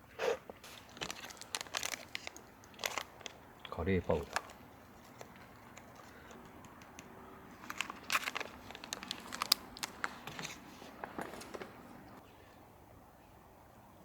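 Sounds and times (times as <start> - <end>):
packet crinkling and clicking: 0.6 - 11.9.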